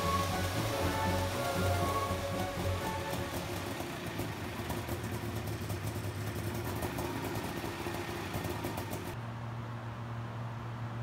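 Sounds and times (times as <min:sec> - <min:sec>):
helicopter engine idling: 0:00.0 - 0:09.2.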